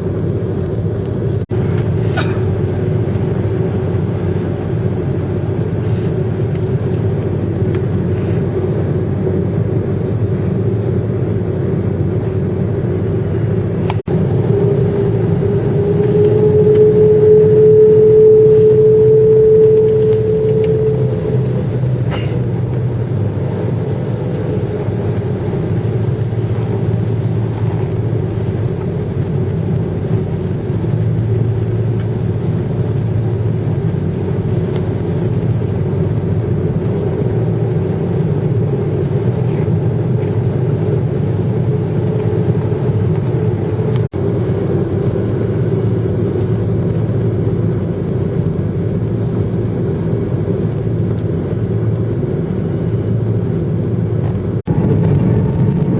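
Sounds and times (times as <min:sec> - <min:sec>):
jet engines in airplane cabin: 0:00.0 - 0:55.9.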